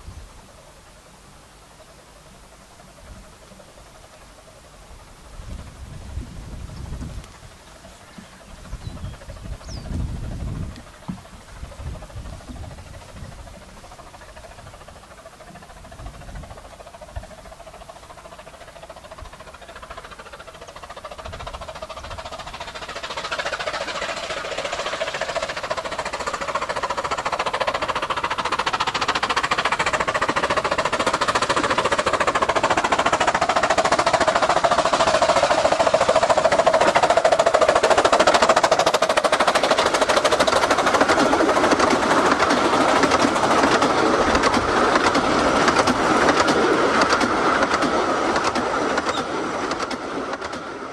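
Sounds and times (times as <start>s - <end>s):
steam locomotive exhaust beats: 0.0s - 50.9s
train wheel noise: 0.0s - 50.9s.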